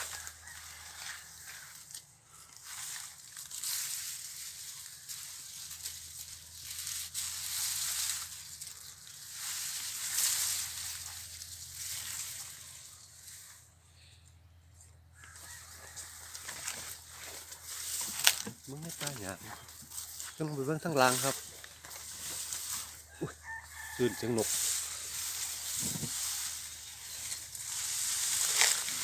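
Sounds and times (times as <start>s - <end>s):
dry leaves and brush crunching: 0.0s - 14.1s, 15.1s - 29.0s.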